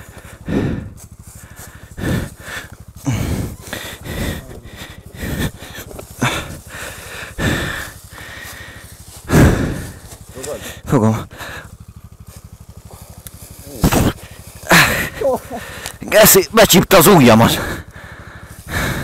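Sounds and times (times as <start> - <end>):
person breathing heavily and grunting: 0.0 - 11.8, 12.8 - 19.0.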